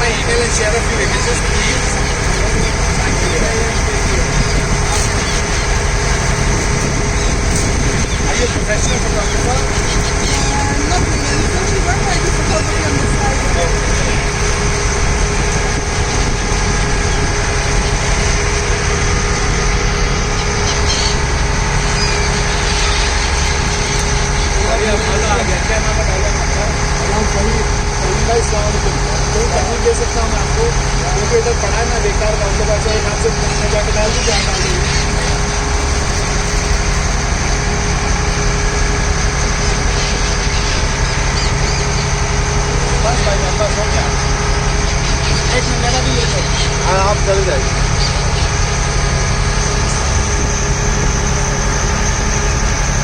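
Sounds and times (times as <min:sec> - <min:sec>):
ferry engine droning: 0:00.0 - 0:53.0.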